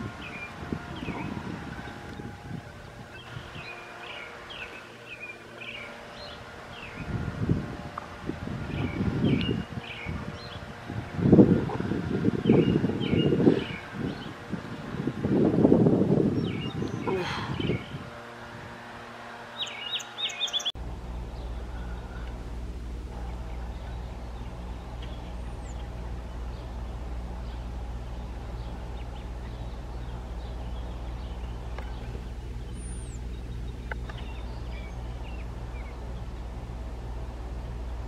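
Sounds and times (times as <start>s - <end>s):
small birds chirping: 0.0s - 7.3s, 8.6s - 14.9s, 16.3s - 18.0s, 19.5s - 38.0s
steady low hum: 0.0s - 38.0s.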